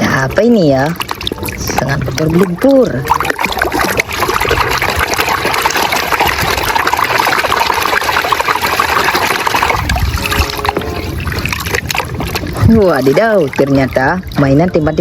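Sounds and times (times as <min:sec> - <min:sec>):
scrubbing a toy: 0:00.0 - 0:14.7
water running and splashing: 0:00.0 - 0:15.0.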